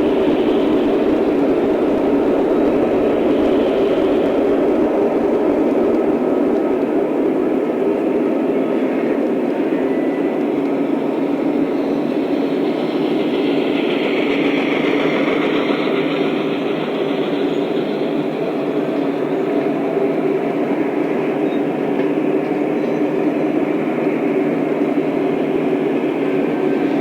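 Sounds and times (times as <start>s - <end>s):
model train running on track: 0.0s - 27.0s.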